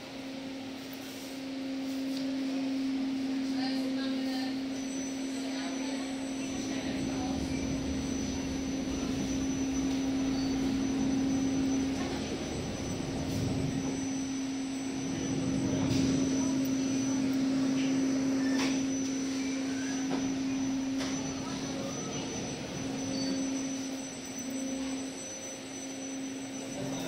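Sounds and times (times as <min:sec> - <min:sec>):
boat engine drone: 0:01.4 - 0:27.0.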